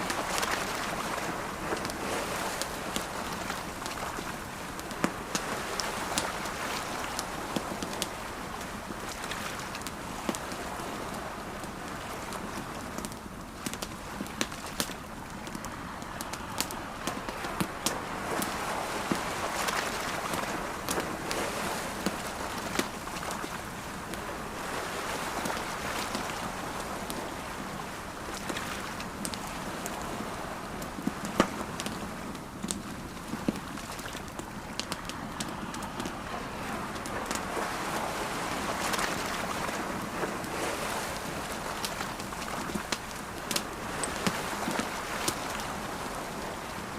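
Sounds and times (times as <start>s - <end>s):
campfire crackling and popping: 0.0s - 10.6s, 11.5s - 24.3s, 28.1s - 30.1s, 30.8s - 36.3s, 36.9s - 37.5s, 38.8s - 46.0s
sea waves: 0.0s - 46.9s.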